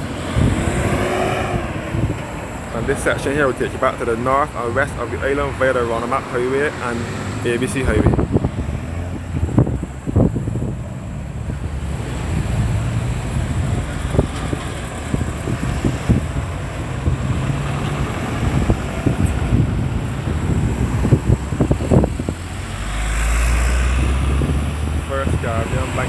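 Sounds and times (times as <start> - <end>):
road traffic passing: 0.0 - 26.0
wind buffeting microphone: 0.0 - 26.0.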